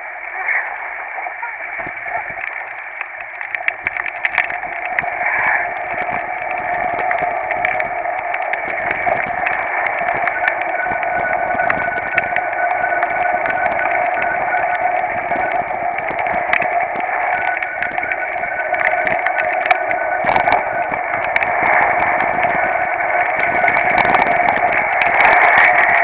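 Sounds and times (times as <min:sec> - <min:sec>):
muffled riding rush: 0:00.0 - 0:26.0.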